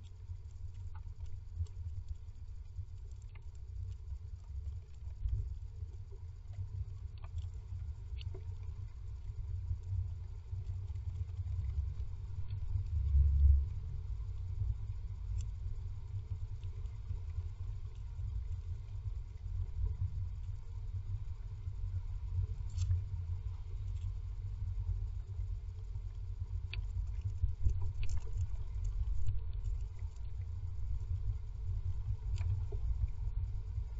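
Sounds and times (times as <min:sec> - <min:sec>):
faint ticks: 0:00.0 - 0:33.9
low rumbling in nest box: 0:00.0 - 0:33.9.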